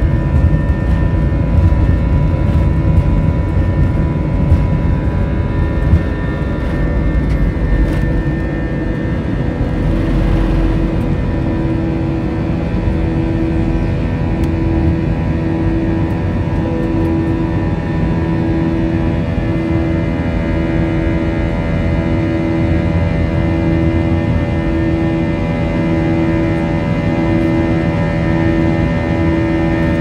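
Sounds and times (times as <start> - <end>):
jet engines roaring: 0.0 - 30.0
wheels rumbling on runway: 0.0 - 30.0.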